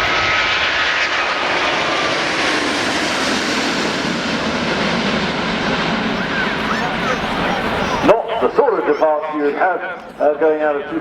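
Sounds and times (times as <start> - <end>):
jet engines at take-off power: 0.0 - 11.0.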